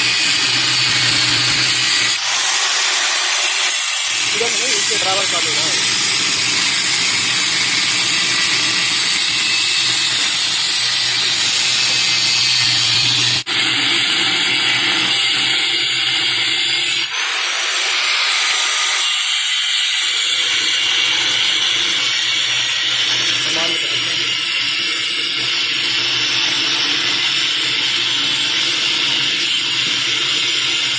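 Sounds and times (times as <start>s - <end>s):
angle grinder cutting steel: 0.0s - 30.9s.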